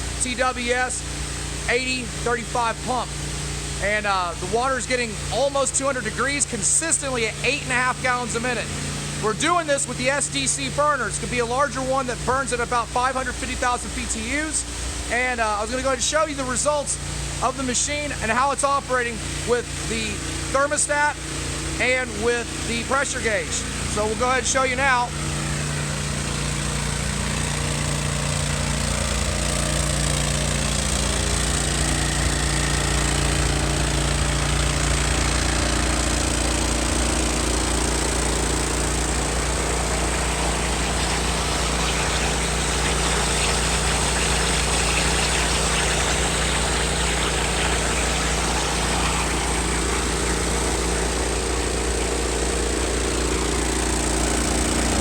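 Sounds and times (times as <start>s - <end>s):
high-pressure pump hiss: 0.0s - 55.0s
pressure washer engine running: 0.0s - 55.0s.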